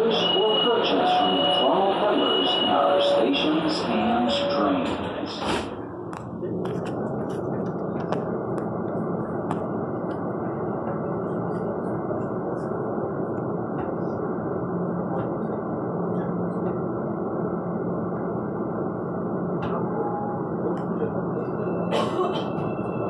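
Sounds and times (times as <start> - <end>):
train wheels rumbling on rail: 2.8 - 23.0.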